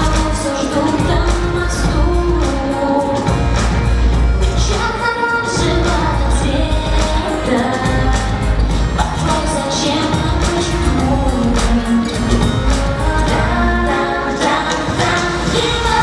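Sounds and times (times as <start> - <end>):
pop music beat and bass: 0.0 - 16.0
woman singing: 0.0 - 16.0.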